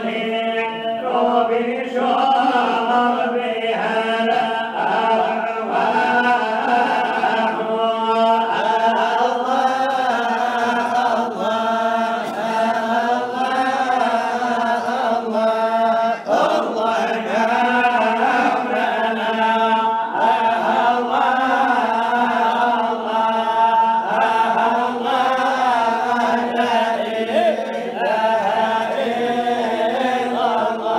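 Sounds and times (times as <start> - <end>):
lead male voice singing: 0.0 - 30.9
men chanting melodically: 0.0 - 30.9.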